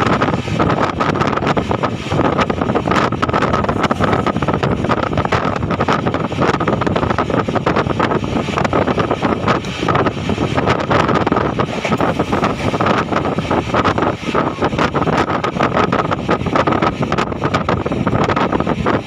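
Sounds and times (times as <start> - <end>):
train coach rumbling on track: 0.0 - 19.0
wheels and bodywork rattling: 0.0 - 19.0
wind buffeting microphone: 0.0 - 19.0.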